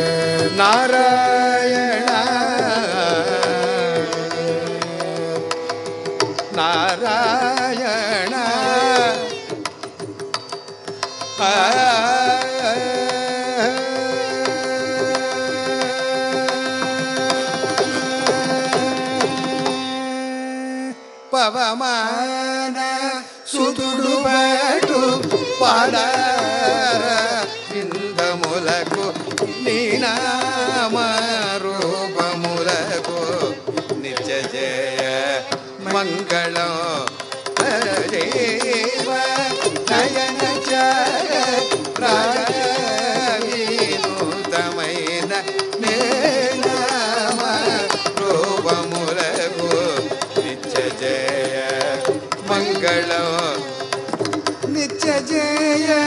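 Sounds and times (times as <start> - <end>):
singing voice: 0.0 - 10.0, 11.0 - 56.0
hand drums: 0.0 - 20.2, 24.4 - 56.0
violin melody: 0.0 - 21.9, 23.2 - 56.0.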